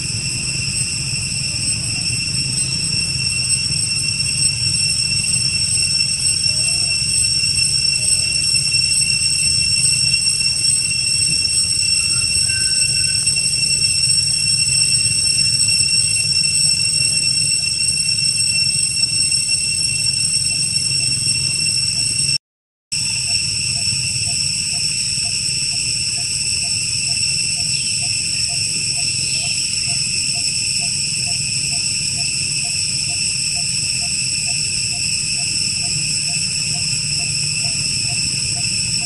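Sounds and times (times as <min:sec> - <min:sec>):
insect chorus droning: 0:00.0 - 0:22.4, 0:23.0 - 0:39.0.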